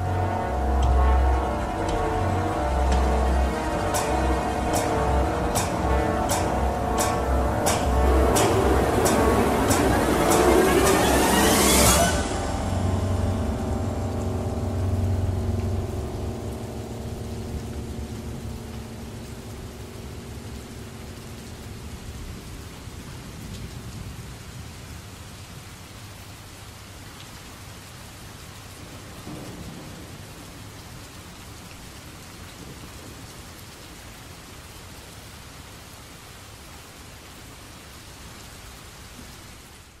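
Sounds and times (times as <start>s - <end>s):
rain hiss: 0.0s - 40.0s.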